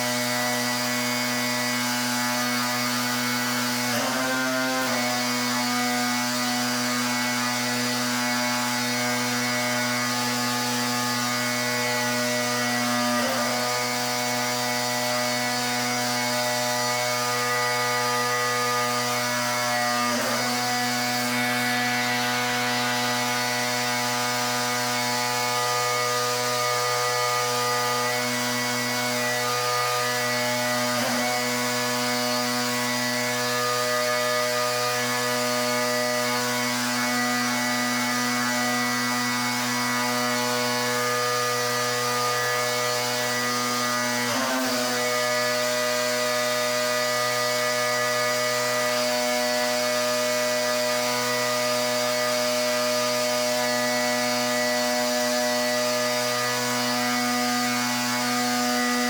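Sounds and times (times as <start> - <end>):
pressure washer drone: 0.0 - 59.0.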